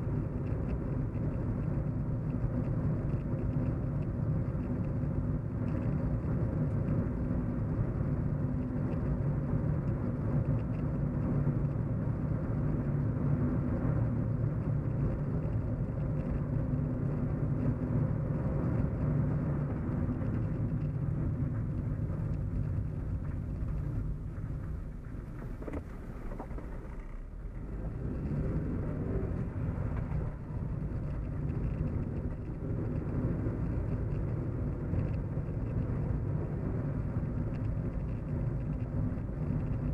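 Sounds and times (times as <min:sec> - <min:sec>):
car cabin hum and rumble: 0:00.0 - 0:39.9.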